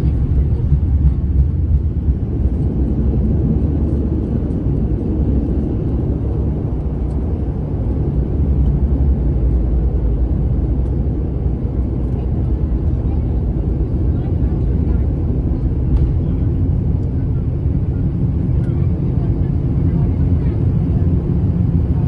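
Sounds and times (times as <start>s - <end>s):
turboprop engine cabin drone: 0.0s - 22.0s.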